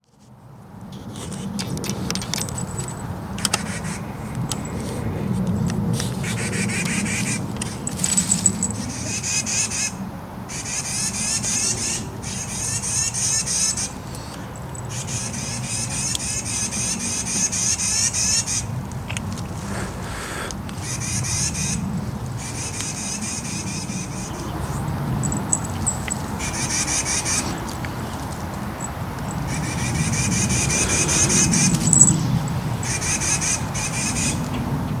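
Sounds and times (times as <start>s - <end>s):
birds chattering: 3.4s - 35.0s.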